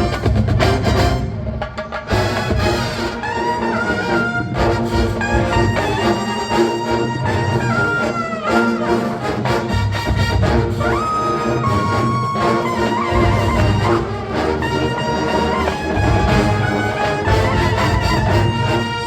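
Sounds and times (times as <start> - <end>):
steady drum beat: 0.0 - 7.7, 8.8 - 10.9, 12.8 - 19.0
brass band playing funk: 0.0 - 19.0.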